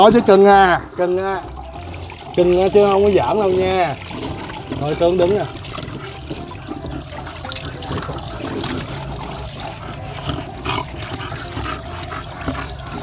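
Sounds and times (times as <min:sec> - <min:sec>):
dog panting heavily: 0:00.0 - 0:13.0
garden hose spraying water: 0:00.0 - 0:13.0
water splashing in tub: 0:00.0 - 0:13.0.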